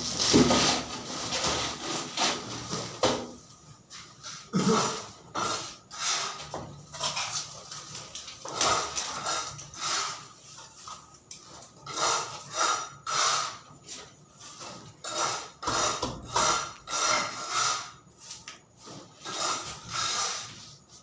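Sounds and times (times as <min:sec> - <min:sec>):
hand tool scraping gritty surface: 0:00.0 - 0:02.8, 0:04.2 - 0:11.0, 0:11.8 - 0:21.0.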